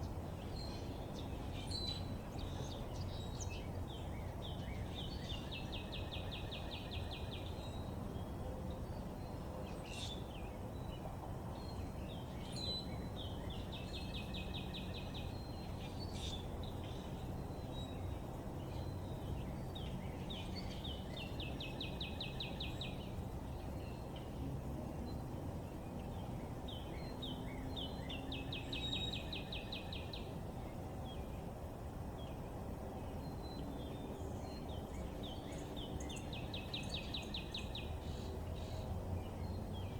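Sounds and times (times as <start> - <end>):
songbird trilling song: 0.4 - 7.9, 11.6 - 24.3, 25.1 - 30.4, 33.0 - 39.9.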